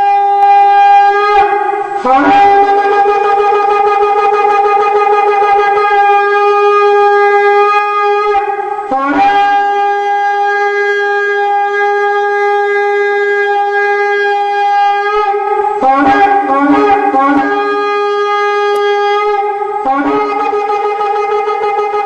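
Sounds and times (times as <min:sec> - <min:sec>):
long horn blasts: 0:00.0 - 0:22.0.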